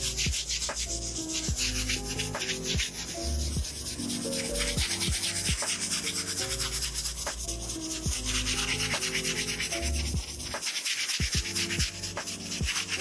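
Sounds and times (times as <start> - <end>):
background music: 0.0 - 13.0
brush scrubbing sneaker sole: 0.0 - 13.0.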